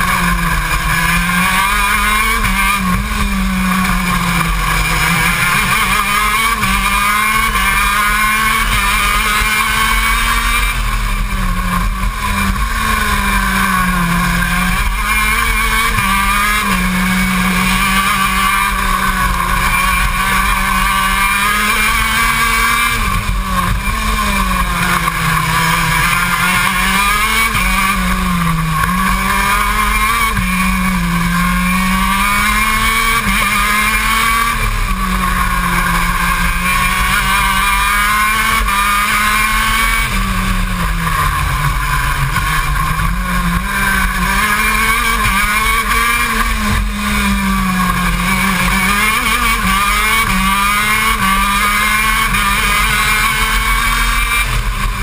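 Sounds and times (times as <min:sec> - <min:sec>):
kart engine racing: 0:00.0 - 0:55.0.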